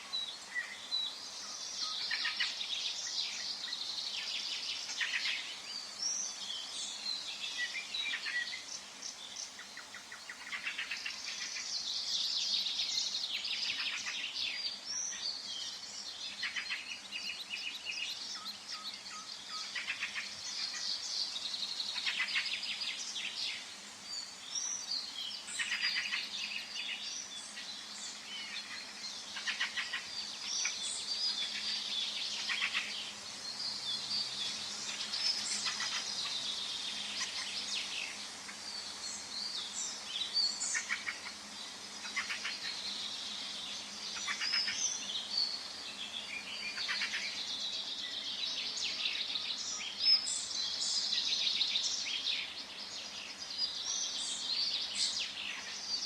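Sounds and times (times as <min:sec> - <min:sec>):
birds singing and calling: 0:00.0 - 0:56.0
soft steady background hiss: 0:00.0 - 0:56.0.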